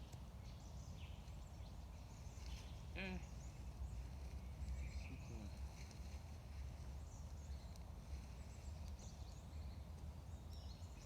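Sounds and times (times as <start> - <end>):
songbirds chirping faintly: 0.0 - 11.0.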